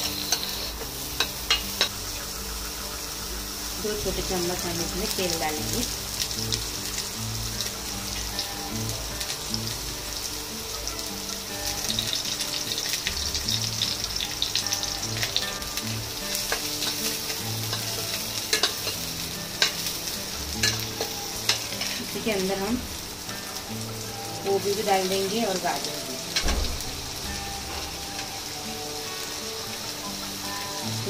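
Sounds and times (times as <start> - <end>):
onions sizzling in oil: 0.0 - 31.0.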